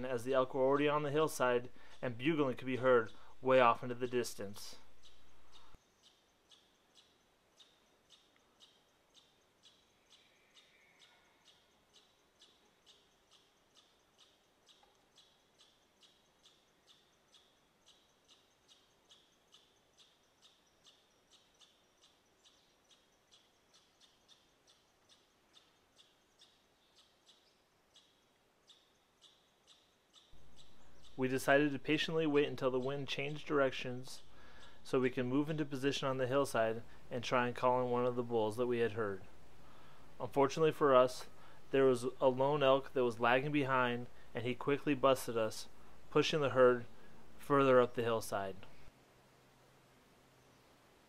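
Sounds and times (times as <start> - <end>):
faint high chirp: 0.0 - 44.8.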